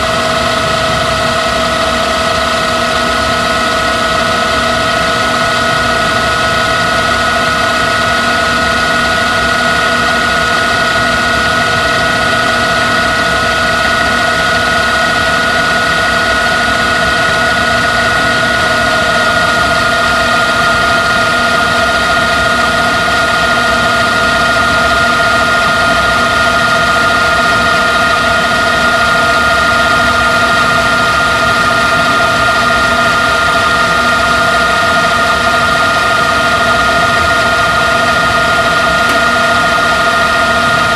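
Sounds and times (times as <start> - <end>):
tape transport mechanical whine: 0.0 - 40.9.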